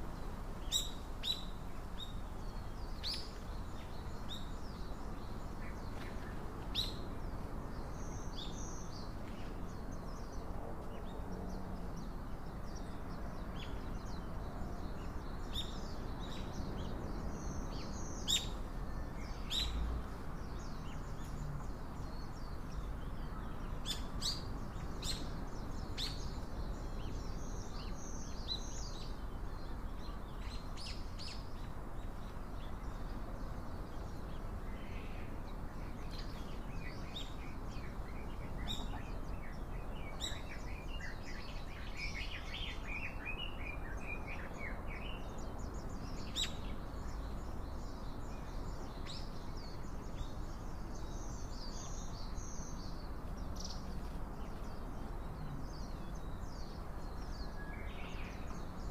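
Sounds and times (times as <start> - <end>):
outdoor background hiss: 0.0 - 58.9
small songbirds chirping: 0.0 - 58.9.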